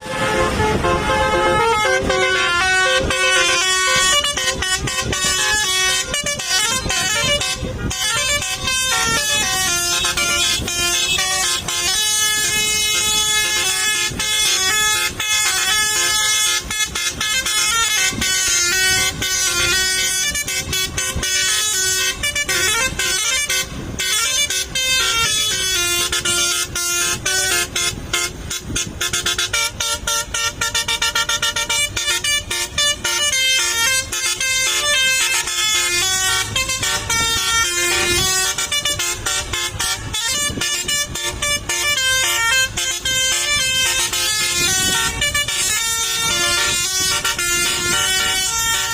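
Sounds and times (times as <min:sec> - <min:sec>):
musical air horn melody: 0:00.0 - 0:48.9.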